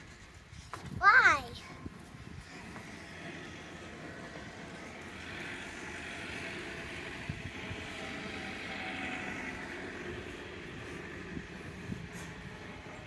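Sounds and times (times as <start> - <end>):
distant tractor engine drone: 1.6 - 13.0.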